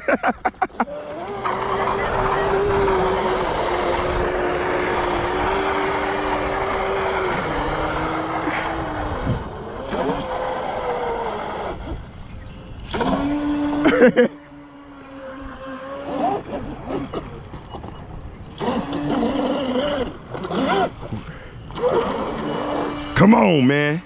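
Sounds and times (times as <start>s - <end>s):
electric motor of rc speedboat: 0.6s - 24.0s.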